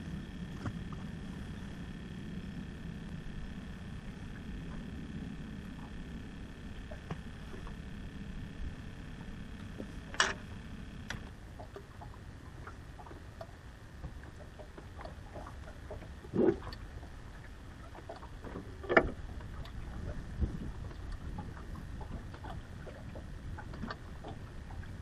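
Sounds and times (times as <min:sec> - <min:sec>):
faint ticks: 0:00.0 - 0:25.0
wind and water rumble: 0:00.0 - 0:25.0.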